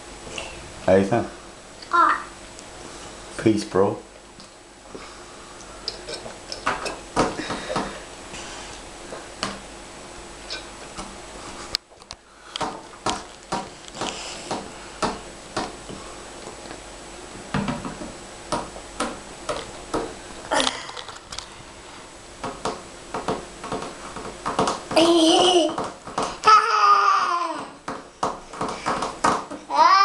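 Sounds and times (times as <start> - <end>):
room hiss: 0.0 - 30.0.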